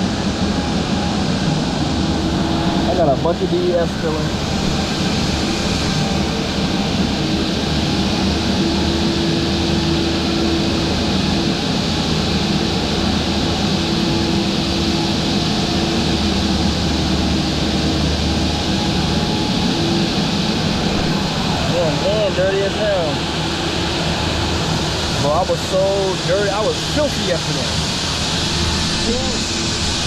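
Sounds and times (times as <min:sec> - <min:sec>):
heavy machinery engines droning: 0:00.0 - 0:30.0.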